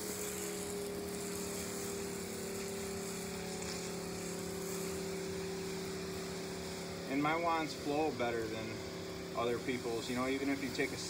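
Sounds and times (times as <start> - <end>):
pump humming: 0.0 - 11.0
spray wand hissing: 0.0 - 11.0.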